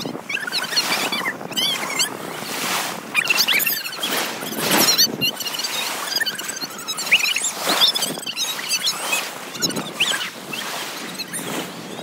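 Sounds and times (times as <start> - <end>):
sea waves washing in: 0.0 - 12.0
high-pitched squeaks and chirps: 0.3 - 2.2, 3.2 - 12.0
water splashing in shallows: 0.5 - 11.8.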